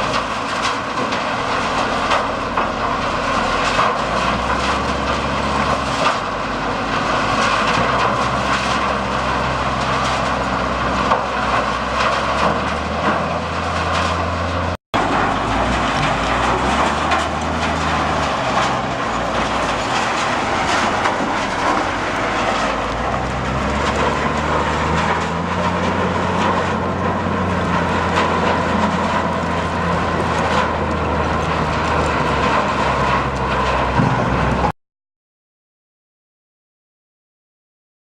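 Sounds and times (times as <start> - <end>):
low motor hum: 0.0 - 34.7.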